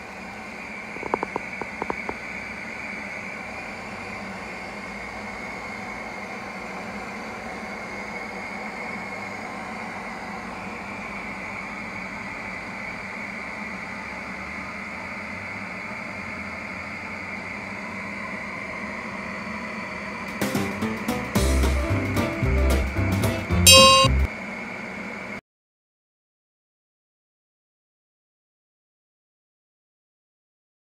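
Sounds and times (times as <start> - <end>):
mechanical hum with hiss: 0.0 - 25.4.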